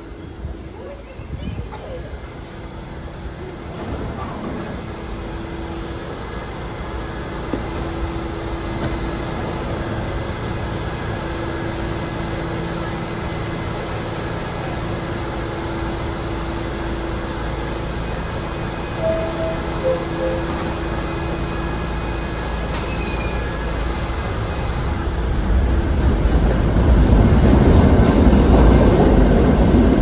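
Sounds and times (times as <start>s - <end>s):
subway train arriving and stopping: 0.0s - 30.0s.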